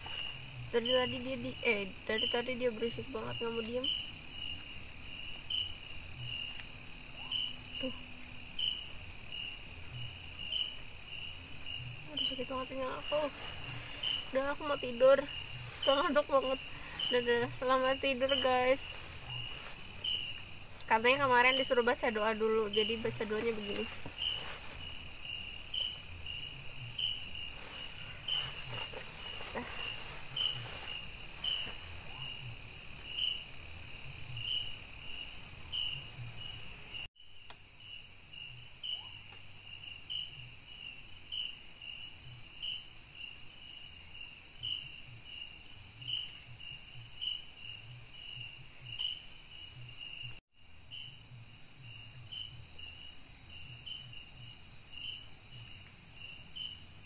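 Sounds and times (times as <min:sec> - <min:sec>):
crickets chirping: 0:00.0 - 0:57.0
night insects buzzing: 0:00.0 - 0:57.0.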